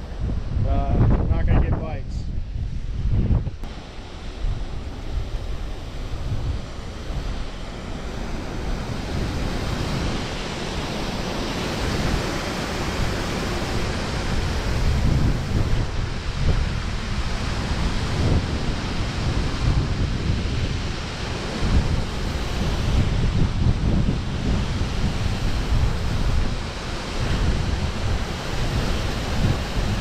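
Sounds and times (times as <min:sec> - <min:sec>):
wind buffeting microphone: 0:00.0 - 0:30.0
water rushing from spillway: 0:03.6 - 0:30.0.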